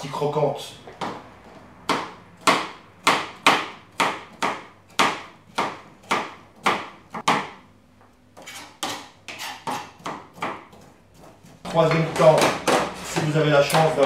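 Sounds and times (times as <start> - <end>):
knife chopping on plastic board: 0.9 - 7.6, 8.4 - 13.9.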